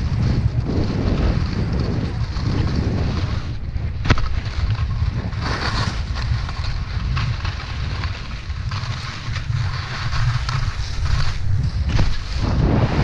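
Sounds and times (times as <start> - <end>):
skis scraping over snow: 0.0 - 13.0
wind buffeting microphone: 0.0 - 13.0.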